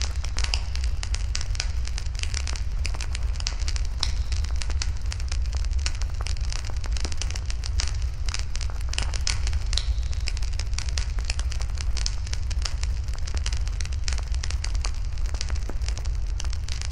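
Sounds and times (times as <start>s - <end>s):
fire rumbling: 0.0s - 16.9s
wood fire crackling: 0.0s - 16.9s.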